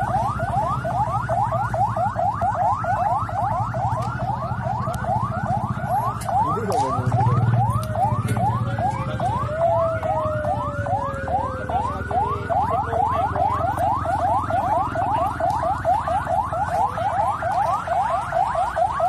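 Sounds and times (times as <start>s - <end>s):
alarm siren whooping: 0.0s - 19.0s.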